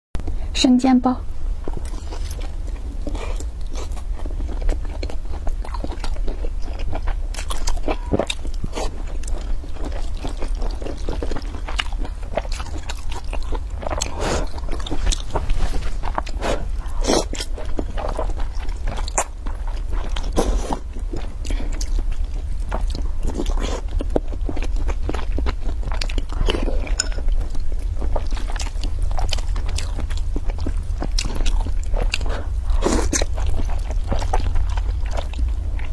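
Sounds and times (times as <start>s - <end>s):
chewing and biting: 1.6s - 35.9s.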